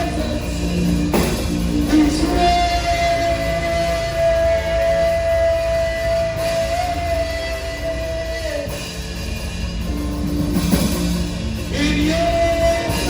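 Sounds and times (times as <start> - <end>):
steady low bass: 0.0 - 13.0.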